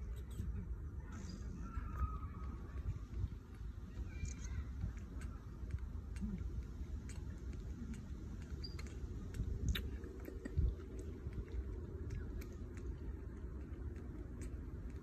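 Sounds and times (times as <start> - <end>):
steady low rumble: 0.0 - 15.0
baby monkey sucking from bottle: 1.3 - 15.0.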